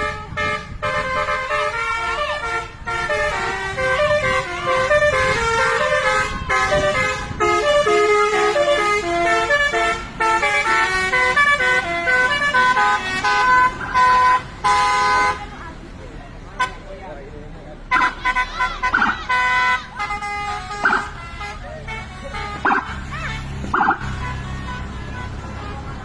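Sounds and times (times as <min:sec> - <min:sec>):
bus multi-tone horn melody: 0:00.0 - 0:15.6, 0:16.5 - 0:16.9, 0:17.8 - 0:26.0.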